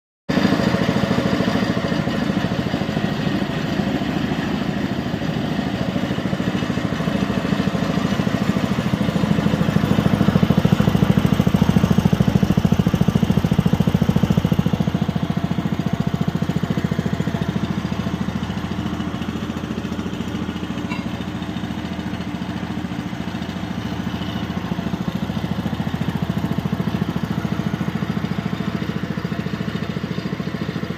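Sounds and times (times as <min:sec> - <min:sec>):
engine running: 0:00.3 - 0:30.9.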